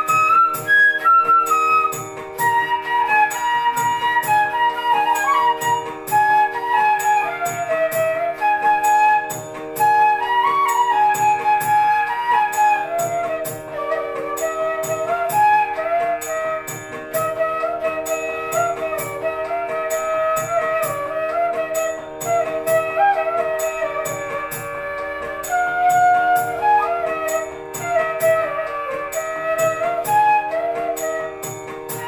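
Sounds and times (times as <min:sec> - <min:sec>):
bamboo flute melody: 0:00.0 - 0:32.0
percussion rhythm: 0:00.0 - 0:32.0.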